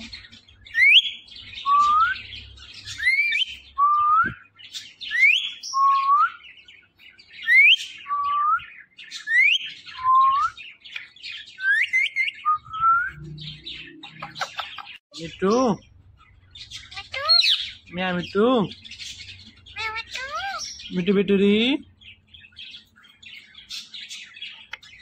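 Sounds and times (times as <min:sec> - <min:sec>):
faint scratchy bird chatter: 0:00.0 - 0:25.0.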